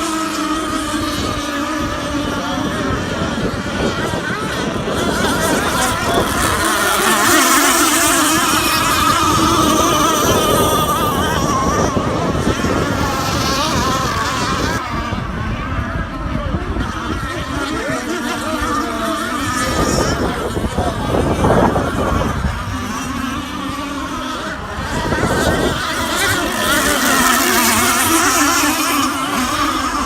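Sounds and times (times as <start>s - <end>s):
radio-controlled boat engines whining: 0.0s - 30.0s.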